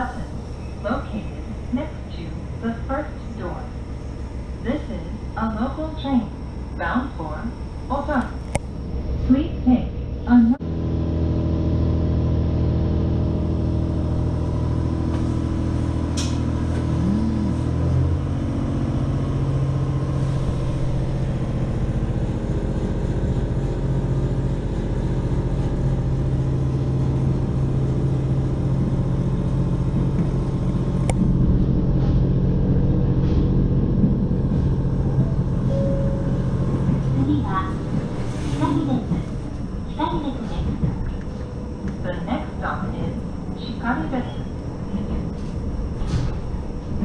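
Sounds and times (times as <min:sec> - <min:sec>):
railcar engine droning: 0:00.0 - 0:47.0.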